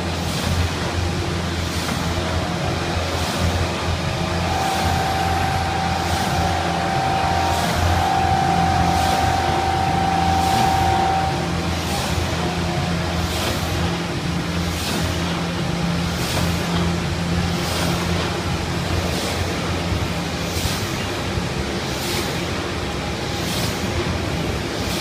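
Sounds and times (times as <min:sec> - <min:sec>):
high machine whine: 0:00.0 - 0:25.0
machine motors humming: 0:00.0 - 0:25.0.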